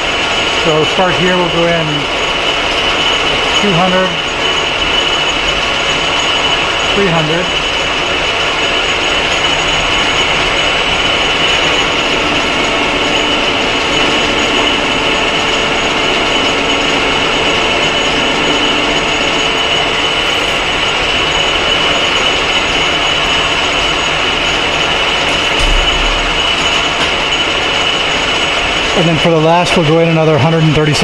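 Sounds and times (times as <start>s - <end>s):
metal lathe cutting: 0.0s - 30.7s.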